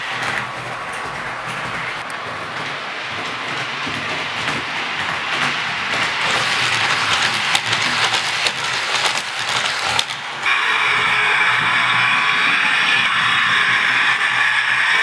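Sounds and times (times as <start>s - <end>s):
model train wheels on rail: 0.0s - 15.0s.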